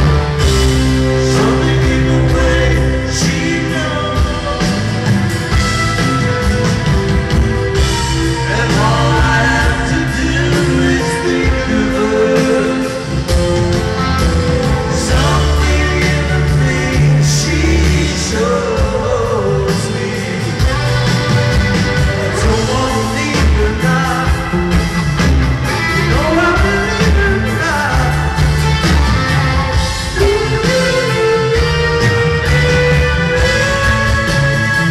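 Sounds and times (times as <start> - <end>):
man singing lead vocal: 0.0 - 5.2, 8.0 - 13.6, 14.5 - 21.1, 22.0 - 28.8, 29.7 - 34.9
live rock band playing ballad: 0.0 - 34.9.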